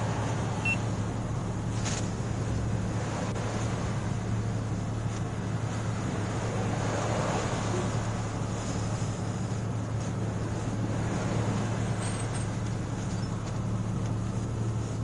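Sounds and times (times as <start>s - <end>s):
vehicle idling hum: 0.0s - 15.0s.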